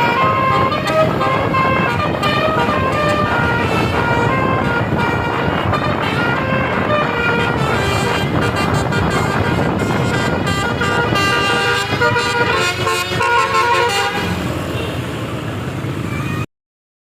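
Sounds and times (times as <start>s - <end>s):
bus air horn playing a melody: 0.0s - 14.5s
engine and road noise: 0.0s - 16.5s.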